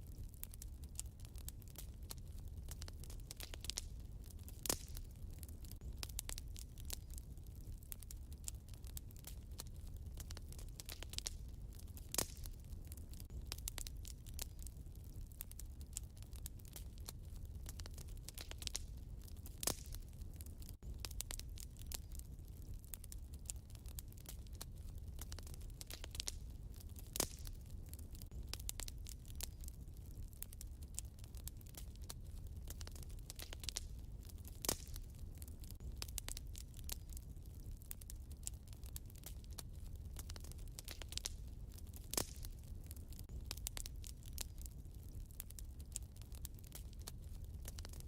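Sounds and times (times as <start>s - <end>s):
low rumble of fire: 0.0s - 48.0s
wood fire crackling: 0.0s - 48.0s.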